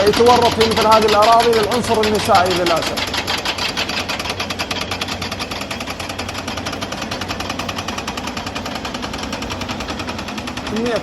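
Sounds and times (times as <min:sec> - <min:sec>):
hydraulic rock breaker hammering: 0:00.0 - 0:11.0
machine engine humming: 0:00.0 - 0:11.0.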